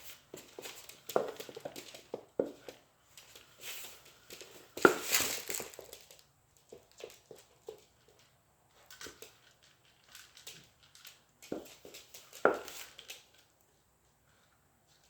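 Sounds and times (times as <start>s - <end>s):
puppy scrabbling with a toy: 0.0s - 13.6s.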